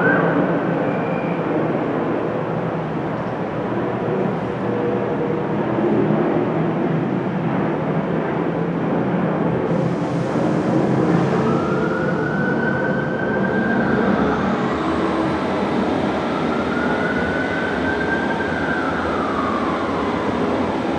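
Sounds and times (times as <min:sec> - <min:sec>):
diesel train rumbling and whining: 0:00.0 - 0:20.9.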